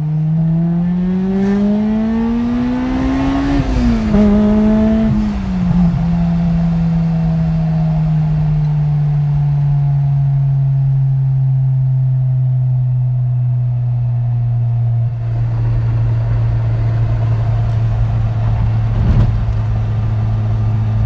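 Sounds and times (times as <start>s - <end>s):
car engine idling: 3.6s - 21.0s.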